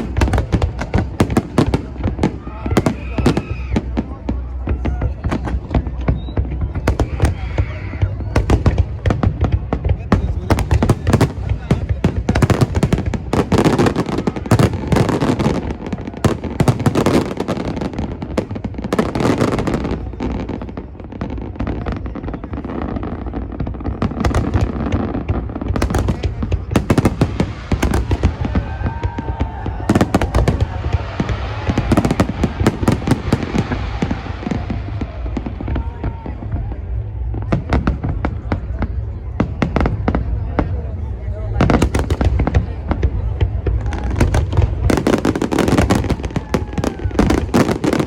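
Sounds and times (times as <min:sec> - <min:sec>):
fireworks bangs and crackling: 0:00.0 - 0:48.0.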